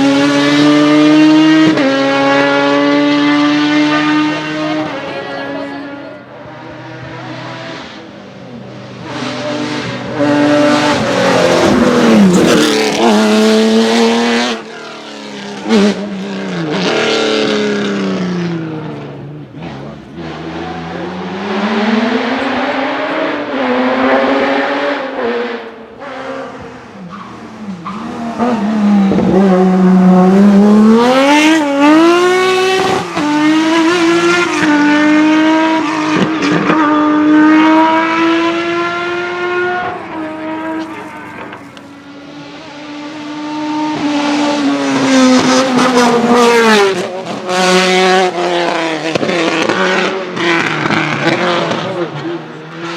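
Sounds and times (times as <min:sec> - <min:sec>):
race car engines at full throttle: 0:00.0 - 0:52.9.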